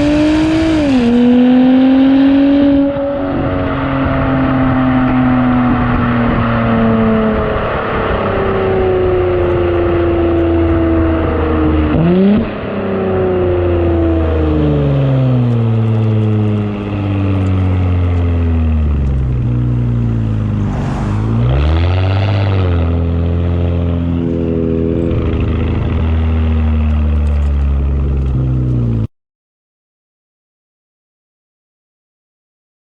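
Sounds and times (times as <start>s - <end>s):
car engine revving while driving: 0.0s - 29.1s.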